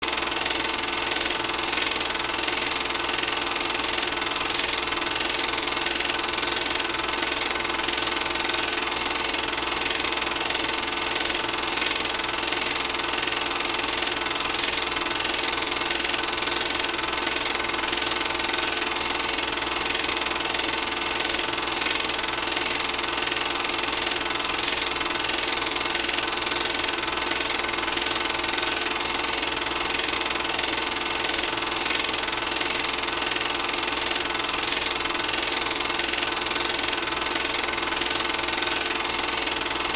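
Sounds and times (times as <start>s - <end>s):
film projector clattering: 0.0s - 39.9s.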